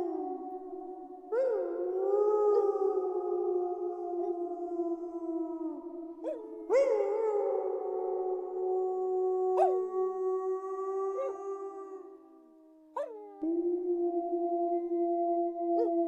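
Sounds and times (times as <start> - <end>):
wolves howling in chorus: 0.0 - 16.0.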